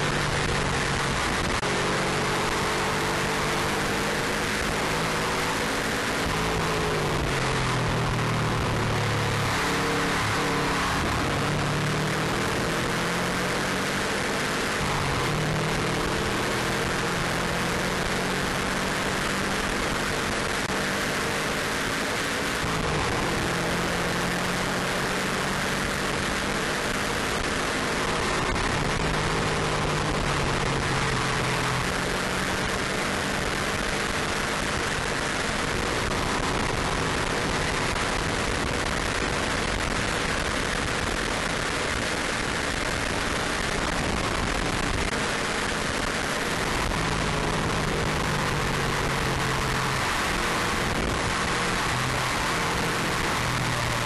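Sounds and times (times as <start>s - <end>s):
car engine shifting through gears: 0.0s - 54.0s
wind and road noise: 0.0s - 54.0s.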